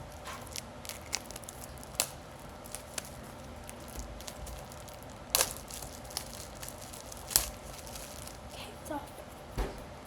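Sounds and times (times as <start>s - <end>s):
toy wrapping crinkling: 0.0s - 8.6s.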